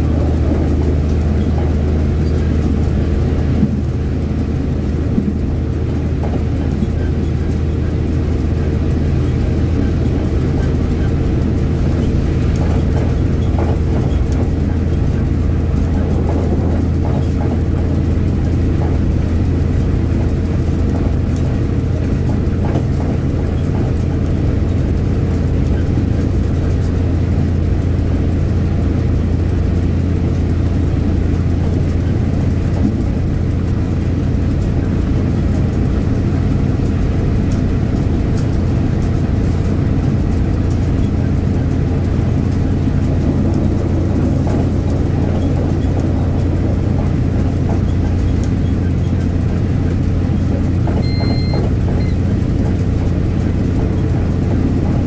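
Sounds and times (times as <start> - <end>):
diesel engine drone: 0.0 - 55.0
train wheels rumbling on rails: 0.0 - 55.0.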